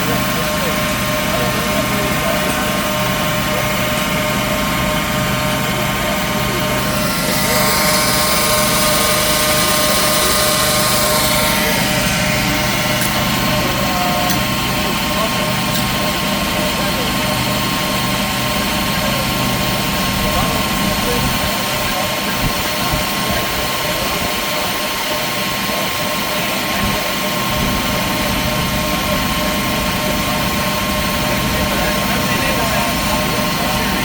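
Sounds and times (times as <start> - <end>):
workshop machinery hum: 0.0 - 34.0.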